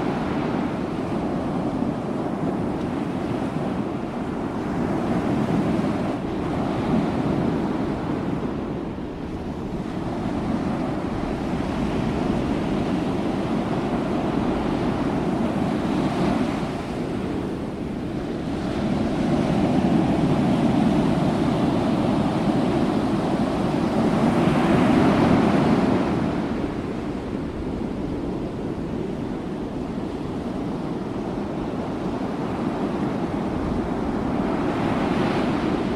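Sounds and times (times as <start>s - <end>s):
ocean waves breaking: 0.0s - 35.9s
wind on microphone: 0.0s - 35.9s.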